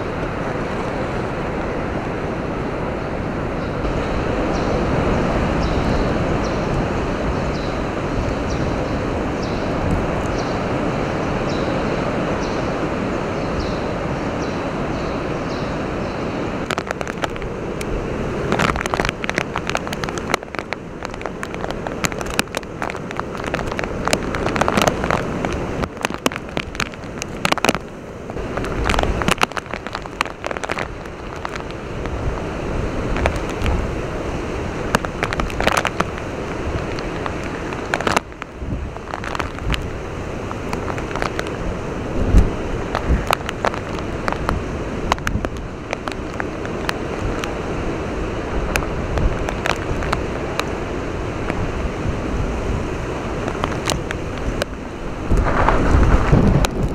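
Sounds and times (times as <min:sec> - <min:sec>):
choppy water against wall: 0:00.0 - 0:56.9
rushing wind: 0:00.0 - 0:56.9
rain striking: 0:03.5 - 0:56.9.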